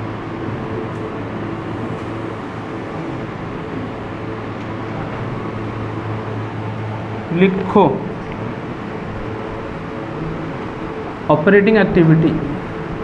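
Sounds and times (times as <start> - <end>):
machinery hum with hiss: 0.0 - 13.0.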